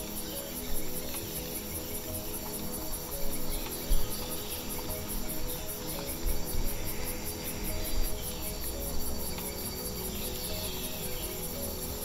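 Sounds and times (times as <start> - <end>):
insects chirping high-pitched: 0.0 - 12.0.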